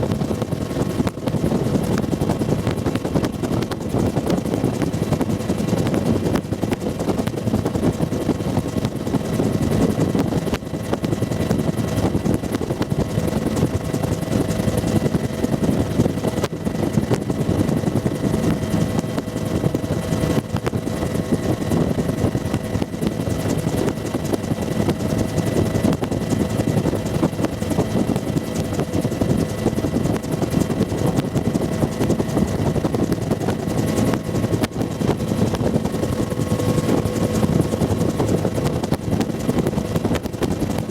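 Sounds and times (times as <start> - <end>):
helicopter rotor and engine din: 0.0 - 40.9.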